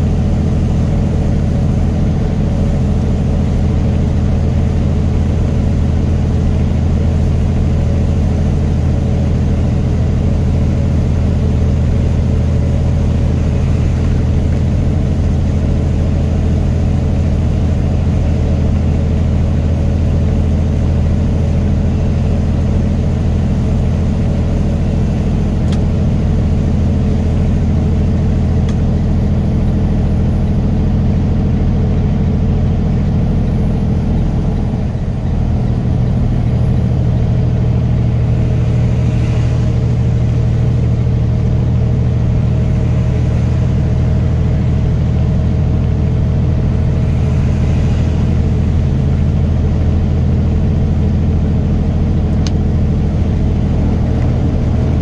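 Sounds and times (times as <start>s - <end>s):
low engine and road drone: 0.0s - 55.0s.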